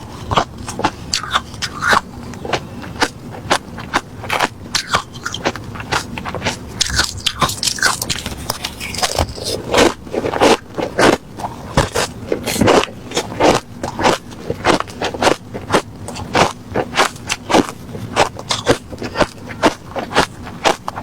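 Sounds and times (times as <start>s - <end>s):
crushed ice being chewed: 0.0s - 21.0s.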